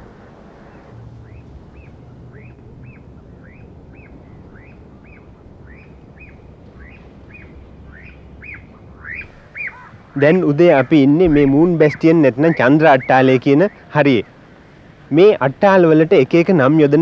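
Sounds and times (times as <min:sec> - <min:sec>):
bird calling: 0:00.6 - 0:14.4.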